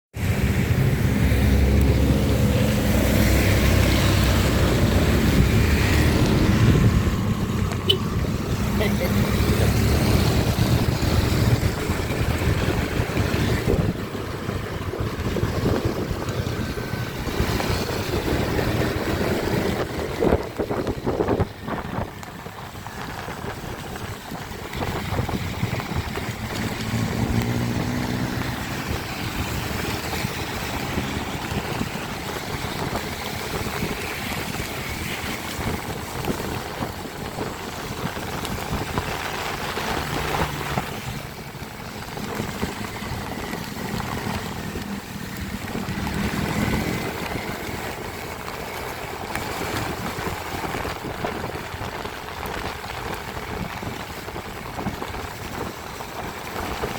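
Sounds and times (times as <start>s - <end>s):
wind on microphone: 0.1s - 56.9s
car engines running: 0.2s - 56.9s
rain: 0.2s - 56.9s
tyres hissing on wet pavement: 0.2s - 56.9s.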